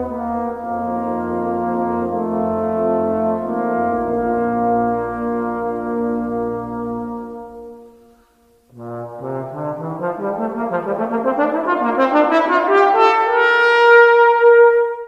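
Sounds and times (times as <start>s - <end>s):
brass instrument rising run: 0.0s - 8.0s, 8.7s - 15.0s.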